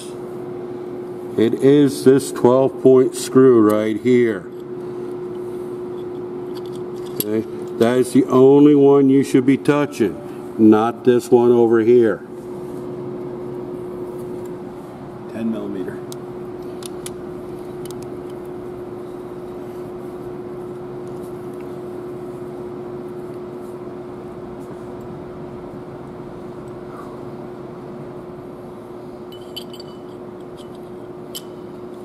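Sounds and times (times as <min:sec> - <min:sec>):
shop machinery hum: 0:00.0 - 0:32.0.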